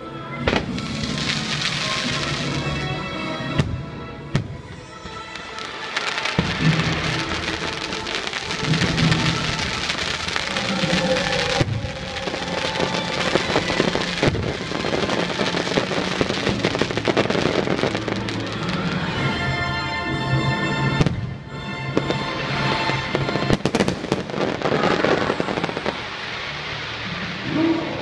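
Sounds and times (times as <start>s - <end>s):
show music: 0.0s - 28.0s
firework bangs: 0.4s - 19.8s, 22.0s - 28.0s
fireworks crackling: 0.4s - 28.0s.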